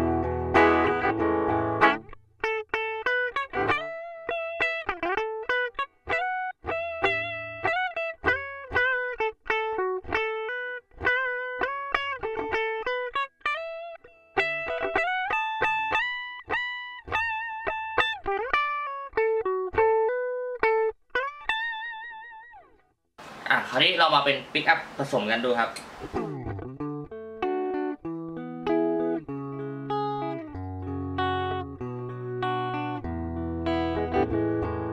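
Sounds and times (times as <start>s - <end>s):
clean electric guitar lead: 0.0s - 22.3s, 26.0s - 34.9s.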